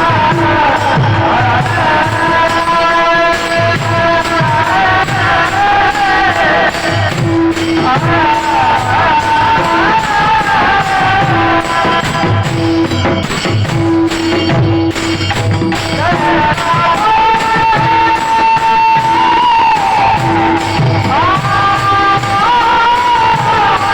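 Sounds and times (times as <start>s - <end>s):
clicking jingling percussion: 0.0s - 23.9s
man singing: 0.0s - 23.9s
steady drum rhythm: 0.0s - 23.9s.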